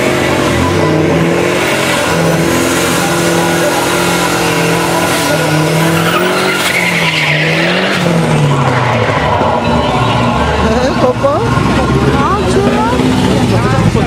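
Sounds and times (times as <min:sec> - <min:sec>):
car engine at high revs: 0:00.0 - 0:14.0
tyres squealing: 0:00.6 - 0:13.8.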